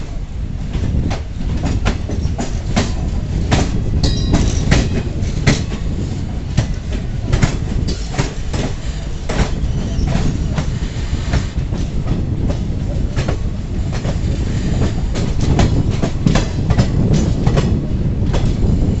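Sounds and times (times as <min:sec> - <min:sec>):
train coaches rumbling past: 0:00.0 - 0:19.0.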